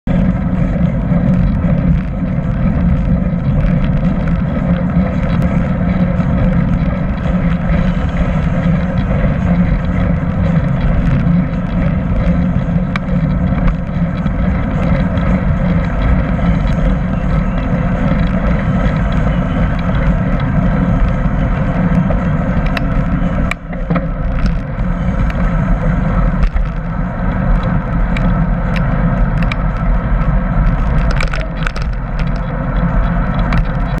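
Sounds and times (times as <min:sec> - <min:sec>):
road rumble: 0:00.0 - 0:34.0
wind rush: 0:00.0 - 0:34.0
small clicks and rattles: 0:00.1 - 0:34.0.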